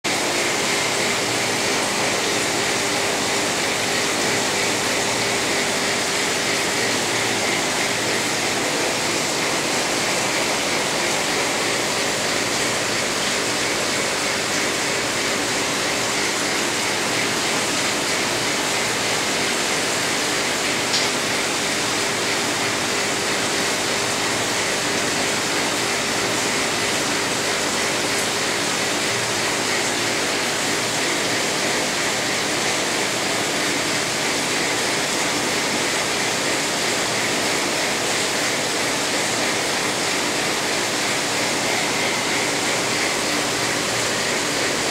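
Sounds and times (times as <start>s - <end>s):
rushing water: 0.1s - 44.9s.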